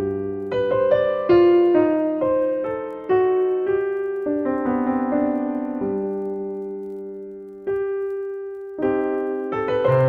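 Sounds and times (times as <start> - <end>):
slow gentle piano melody: 0.0 - 10.0.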